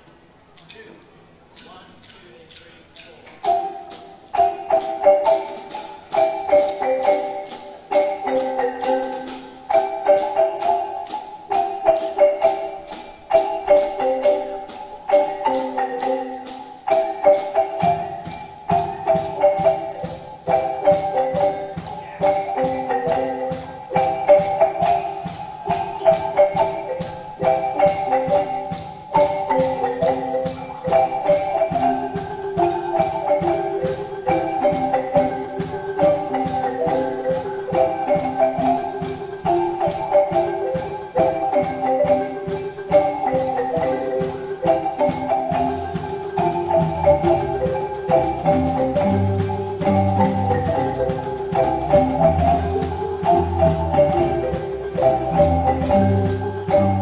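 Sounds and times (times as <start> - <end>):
marimba ensemble playing: 1.6 - 57.0.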